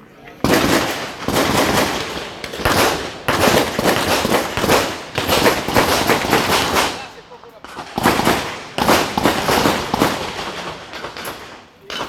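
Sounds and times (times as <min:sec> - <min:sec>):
rapid handgun fire: 0:00.4 - 0:12.0.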